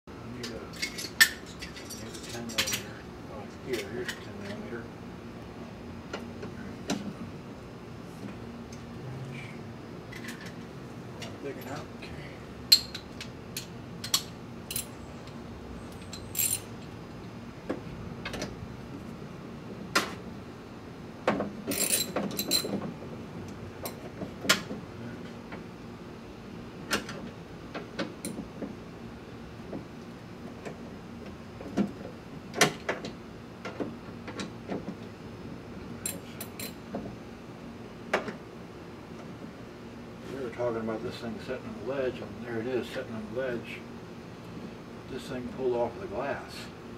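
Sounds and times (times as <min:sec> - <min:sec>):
steady low hum: 0:00.1 - 0:46.9.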